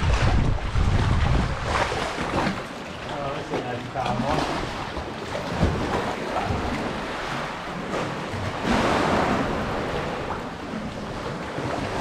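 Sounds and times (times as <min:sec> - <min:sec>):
paddle strokes splashing water: 0:00.0 - 0:12.0
water lapping in a cave: 0:00.0 - 0:12.0.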